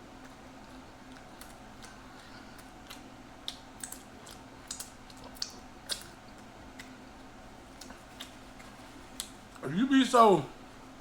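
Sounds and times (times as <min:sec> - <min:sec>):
chewing and lip smacks: 0:00.1 - 0:09.6.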